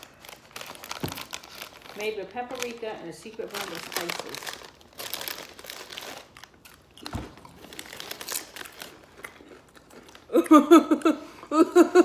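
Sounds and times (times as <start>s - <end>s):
chip bag crinkling: 0.0s - 10.4s
chips crunching: 0.0s - 10.4s.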